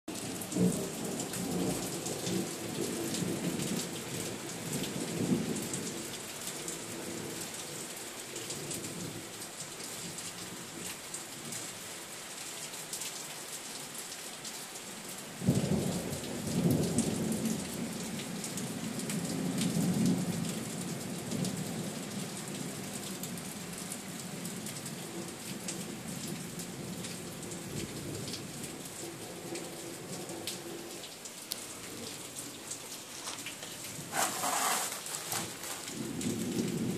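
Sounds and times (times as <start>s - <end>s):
steady rain hiss: 0.1s - 36.9s.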